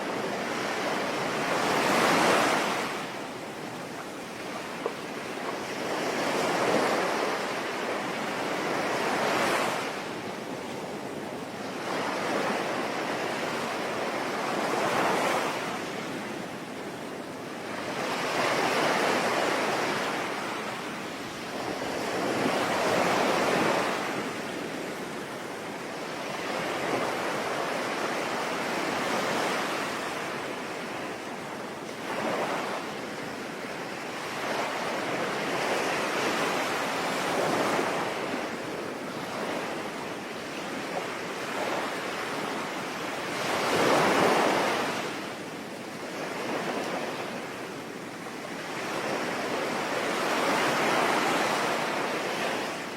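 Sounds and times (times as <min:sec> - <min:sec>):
sea waves breaking: 0:00.0 - 0:52.9.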